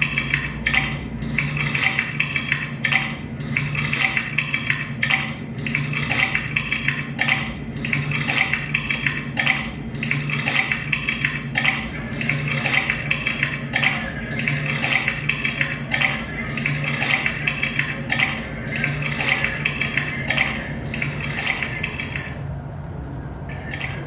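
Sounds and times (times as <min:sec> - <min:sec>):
rhythmic clinking and clattering: 0:00.0 - 0:22.4
steady low hum: 0:00.0 - 0:24.0.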